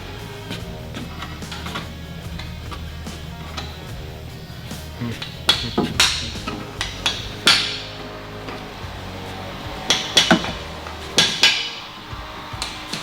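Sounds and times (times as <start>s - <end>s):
background music: 0.0s - 13.0s
sharp metal knocks: 0.0s - 13.0s.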